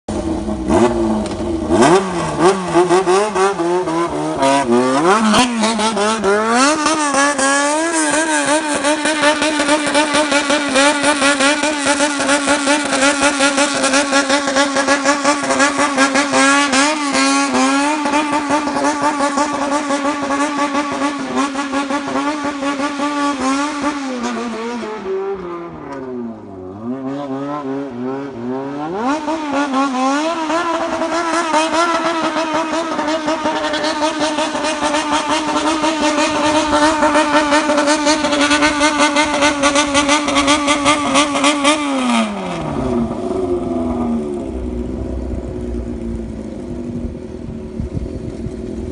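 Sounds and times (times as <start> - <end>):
motorcycle engine revving rhythmically: 0.1 - 44.8.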